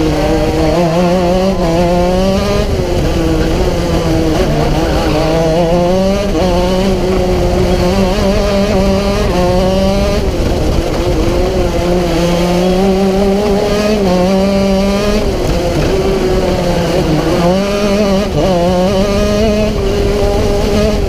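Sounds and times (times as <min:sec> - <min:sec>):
kart engine at high revs: 0:00.0 - 0:21.0
wind rumble on microphone: 0:00.0 - 0:21.0.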